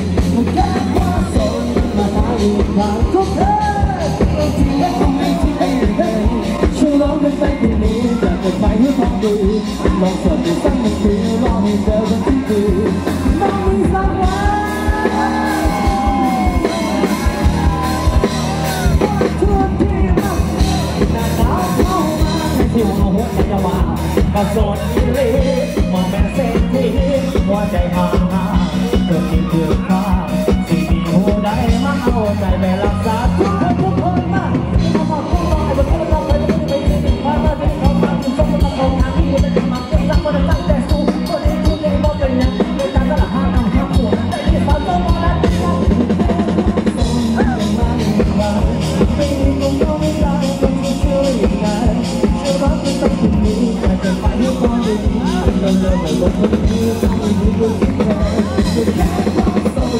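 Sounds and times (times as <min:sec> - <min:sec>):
drum kit beat: 0:00.0 - 0:59.9
electric guitar: 0:00.0 - 0:59.9
live rock band playing: 0:00.0 - 0:59.9
person singing: 0:00.0 - 0:59.9.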